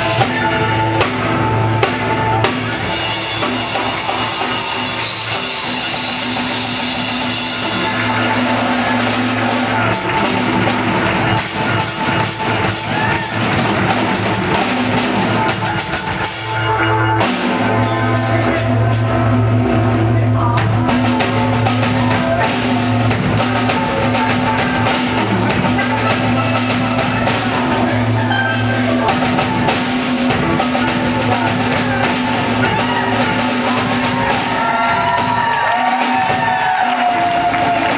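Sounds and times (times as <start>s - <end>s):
drum kit beat: 0.0s - 37.9s
steel pan band playing: 0.0s - 37.9s.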